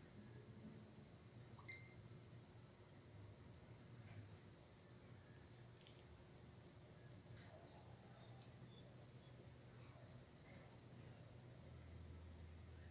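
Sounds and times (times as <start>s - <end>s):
crickets trilling: 0.0s - 12.9s.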